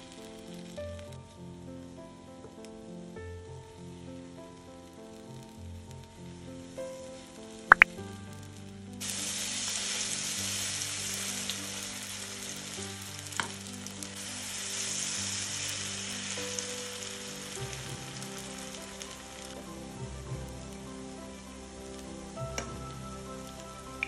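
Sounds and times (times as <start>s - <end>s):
batter sizzling in hot oil: 0.0s - 1.6s, 2.4s - 24.0s.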